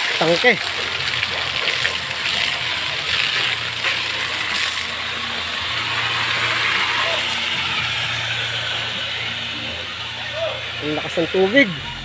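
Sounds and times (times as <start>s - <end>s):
water gushing onto ground: 0.0s - 12.0s.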